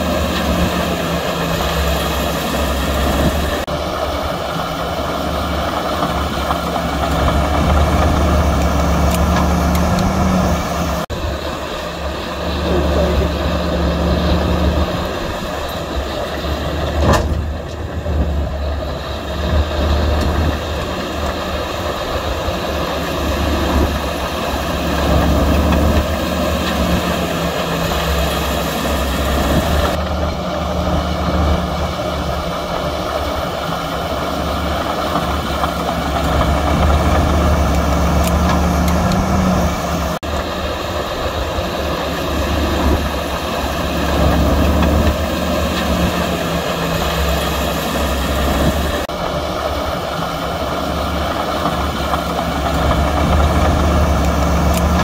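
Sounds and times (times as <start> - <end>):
heavy machine diesel engines droning: 0.0 - 55.0.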